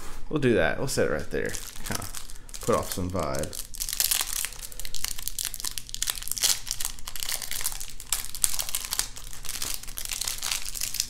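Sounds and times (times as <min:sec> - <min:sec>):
plastic wrap crinkling: 0:01.4 - 0:11.0.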